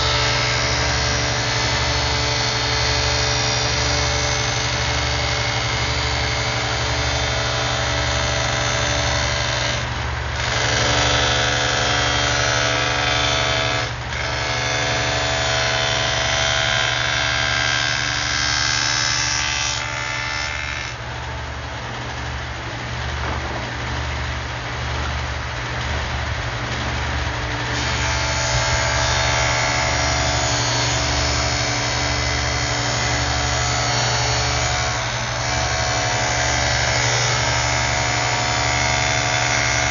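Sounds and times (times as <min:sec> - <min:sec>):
table saw cutting plywood: 0:00.0 - 0:21.0, 0:27.5 - 0:39.9.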